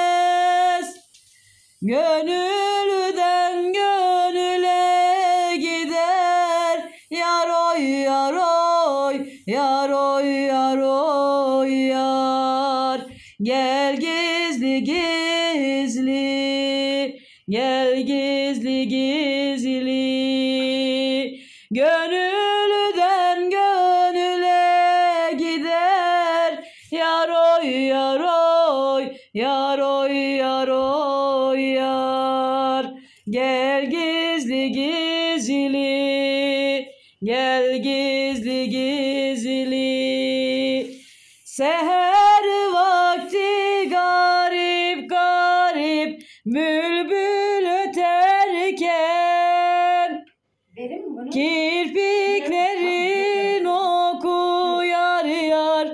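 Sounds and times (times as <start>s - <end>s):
woman singing unaccompanied: 0.0s - 55.9s.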